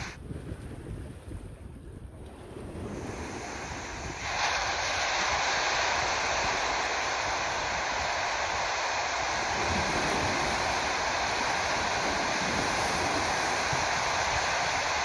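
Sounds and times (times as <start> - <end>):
wind rumble on microphone: 0.0 - 15.0
sea surf rushing: 2.3 - 15.0.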